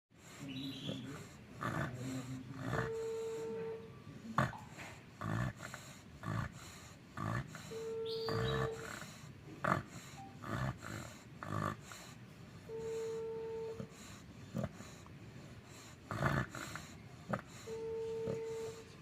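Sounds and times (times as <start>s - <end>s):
dog snoring: 0.2s - 19.0s.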